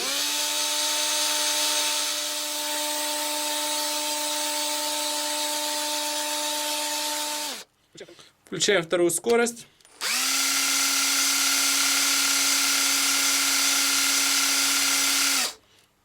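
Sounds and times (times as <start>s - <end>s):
drill motor whine: 0.0s - 7.6s, 10.0s - 15.6s.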